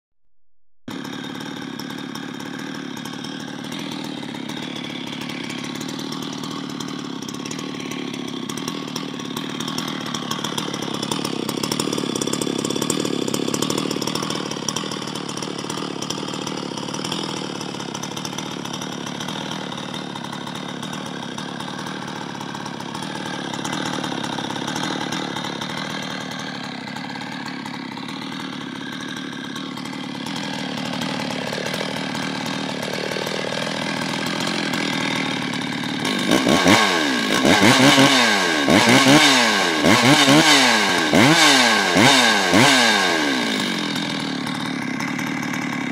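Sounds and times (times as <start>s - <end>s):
chainsaw idling: 0.9s - 45.9s.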